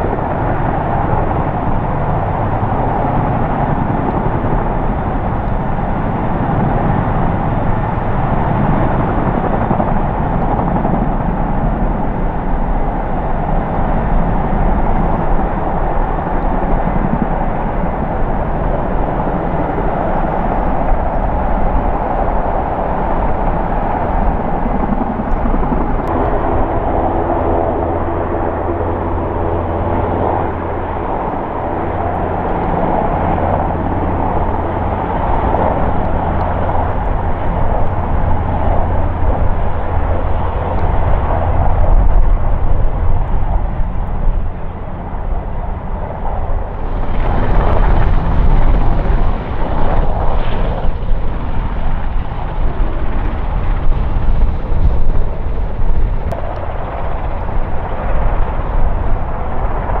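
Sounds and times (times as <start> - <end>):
helicopter rotor and turbine: 0.0 - 60.0.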